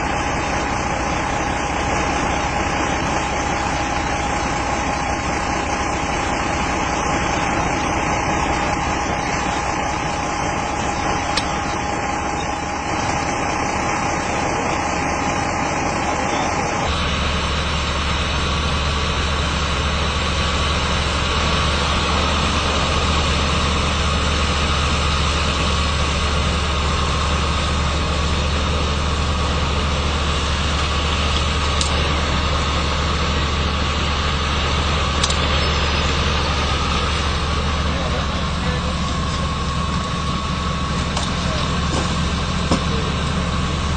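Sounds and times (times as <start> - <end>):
vehicle engines idling: 0.0 - 43.9.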